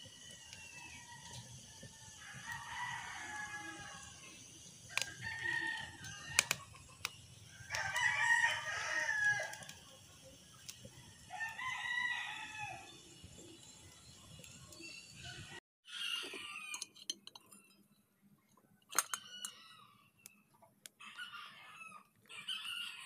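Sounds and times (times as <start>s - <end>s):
roosters crowing: 0.0s - 16.9s, 21.0s - 23.0s.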